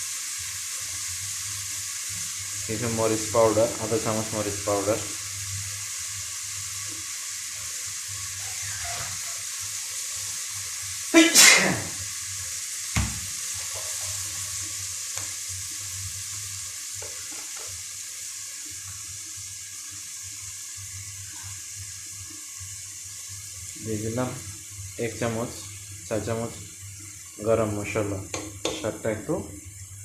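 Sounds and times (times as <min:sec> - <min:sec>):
food sizzling in oil: 0:00.0 - 0:30.0.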